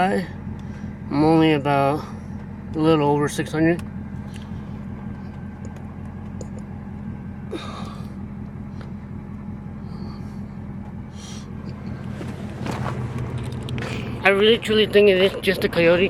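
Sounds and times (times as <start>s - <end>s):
car engine idling: 0.0s - 16.0s
engine ticking: 0.0s - 16.0s.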